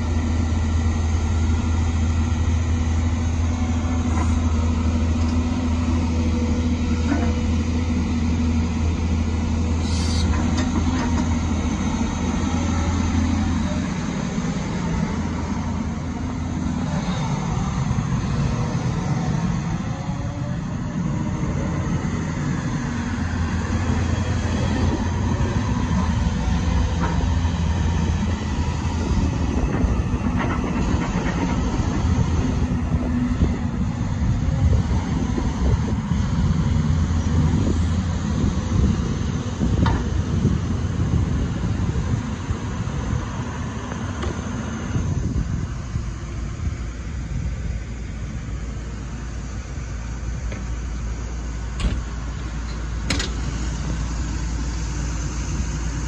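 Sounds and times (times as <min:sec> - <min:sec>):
excavator diesel engine rumble: 0:00.0 - 0:56.0.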